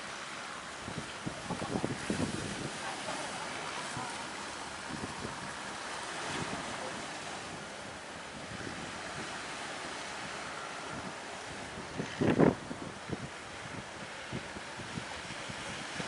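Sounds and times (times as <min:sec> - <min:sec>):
sea waves: 0:00.0 - 0:16.0
strong wind: 0:00.0 - 0:16.0
wind buffeting microphone: 0:00.8 - 0:16.0.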